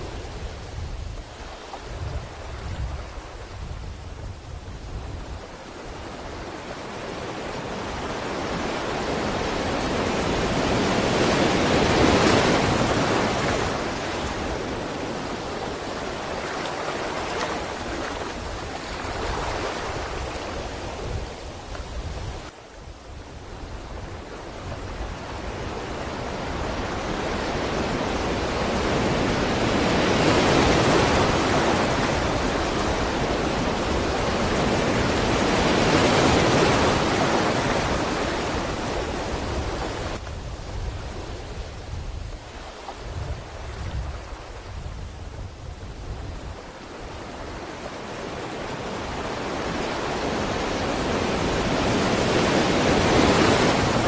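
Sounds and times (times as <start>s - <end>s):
sea waves washing onto shore: 0.0s - 54.0s.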